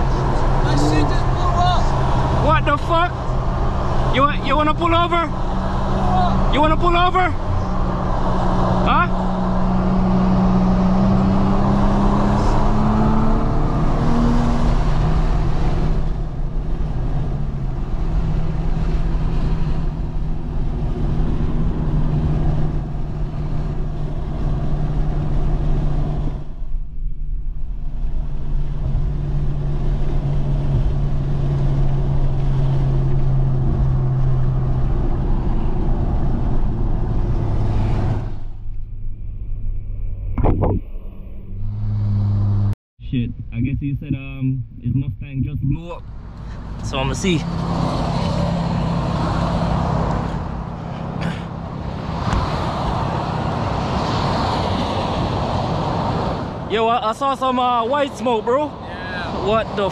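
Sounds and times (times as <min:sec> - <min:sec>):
car engine drone in cabin: 0:00.0 - 0:58.7
road noise: 0:00.0 - 0:59.9.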